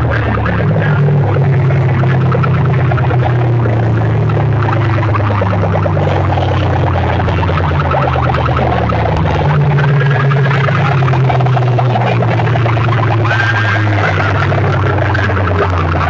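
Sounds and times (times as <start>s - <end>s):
deep distorted bass music: 0.0s - 16.0s
rapid rattling buzz: 0.0s - 16.0s.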